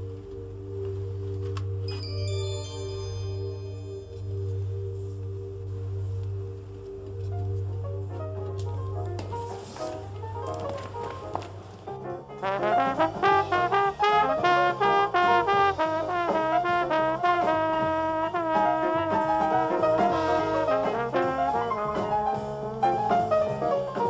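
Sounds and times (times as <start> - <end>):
trombone playing jazz melody: 0.0 - 24.0
walking bass line: 0.0 - 24.0.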